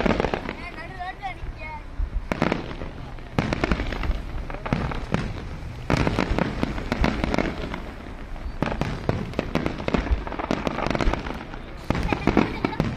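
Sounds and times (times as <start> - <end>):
fireworks bangs and crackles: 0.0 - 12.9.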